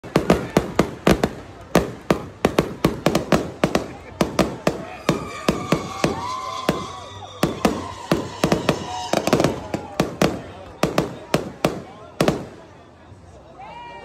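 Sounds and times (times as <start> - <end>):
fireworks exploding: 0.0 - 12.9.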